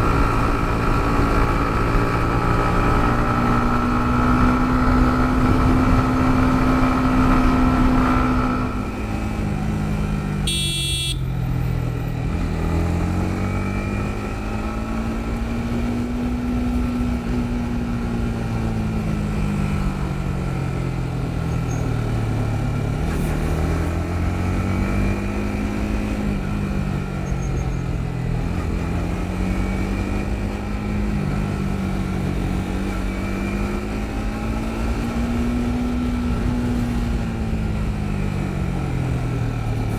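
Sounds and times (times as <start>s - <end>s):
motorcycle engine revving: 0.0s - 39.9s
road noise: 0.0s - 39.9s.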